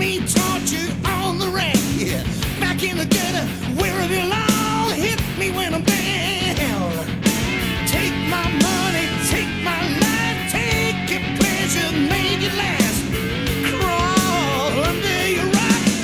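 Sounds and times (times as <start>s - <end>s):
bass: 0.0s - 16.0s
electric guitar lead lines: 0.0s - 16.0s
steady drum beat: 0.0s - 16.0s.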